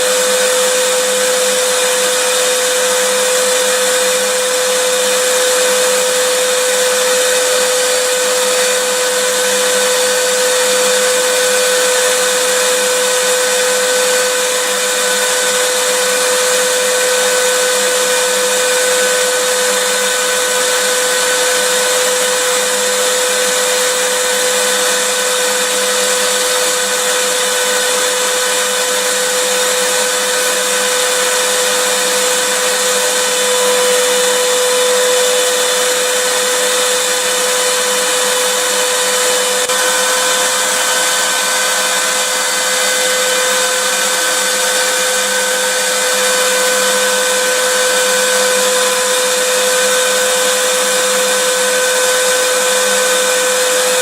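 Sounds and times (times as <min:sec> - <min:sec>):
vacuum cleaner motor running: 0:00.0 - 0:54.0.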